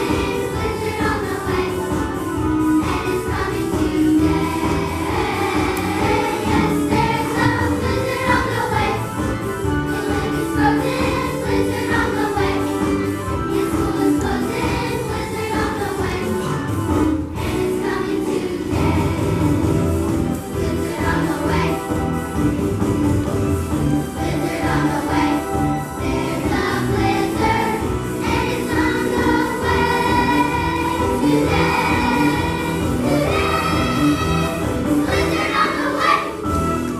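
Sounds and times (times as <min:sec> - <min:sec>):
choir singing: 0:00.0 - 0:02.2, 0:02.8 - 0:12.9, 0:13.5 - 0:16.6, 0:17.3 - 0:22.3, 0:24.2 - 0:36.6.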